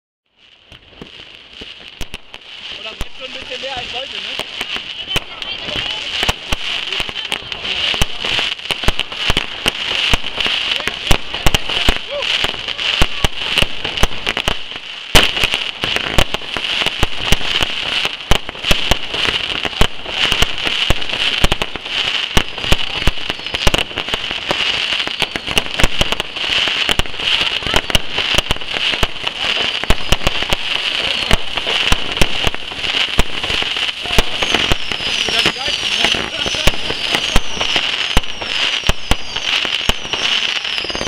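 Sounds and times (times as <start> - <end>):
firework bangs and pops: 0.3 - 41.0
firework crackling hiss: 0.3 - 41.0.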